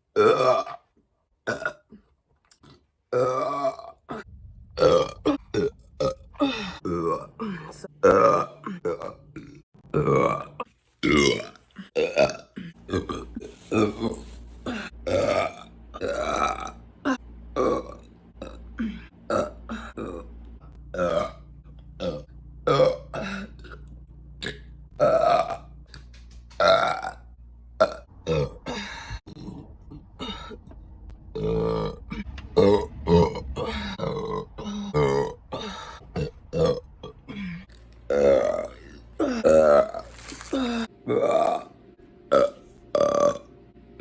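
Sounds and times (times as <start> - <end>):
person burping: 0.1 - 25.9, 26.6 - 43.5.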